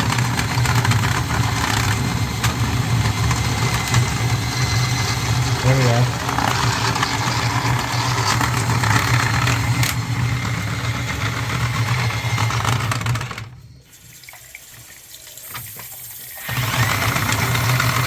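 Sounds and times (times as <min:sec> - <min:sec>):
drain auger motor humming: 0:00.0 - 0:13.8, 0:16.4 - 0:18.0.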